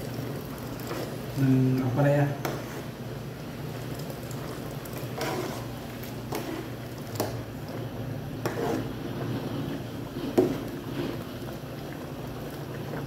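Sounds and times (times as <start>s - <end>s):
ladle stirring watery soup: 0.0s - 1.6s, 2.3s - 13.0s.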